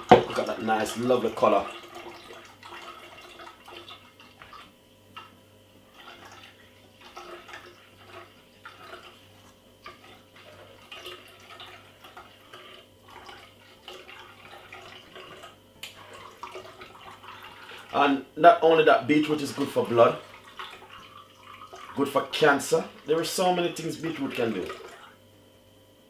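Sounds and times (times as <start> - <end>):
juice dripping through a strainer: 0.0 - 25.8
low steady hum: 0.0 - 26.0.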